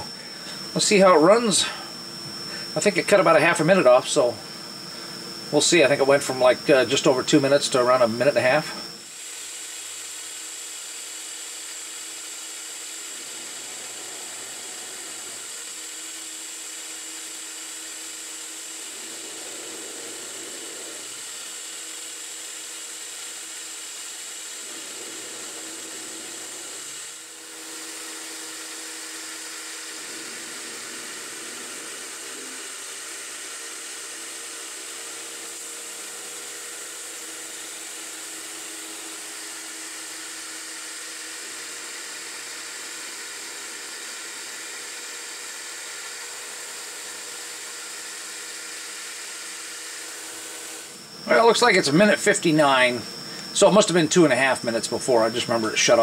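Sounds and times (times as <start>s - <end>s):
lathe cutting hiss and whine: 0.0s - 56.0s
lathe motor hum: 0.0s - 56.0s.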